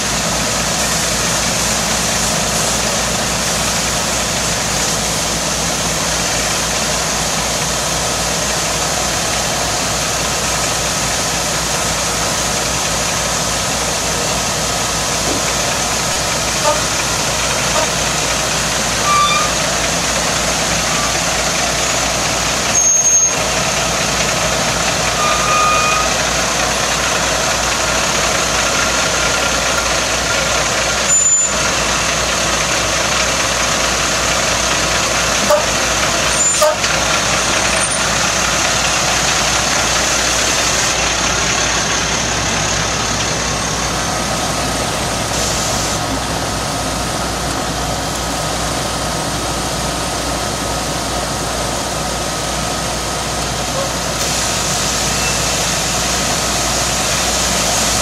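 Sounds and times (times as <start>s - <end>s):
machine spraying water: 0.0s - 50.9s, 52.0s - 58.0s.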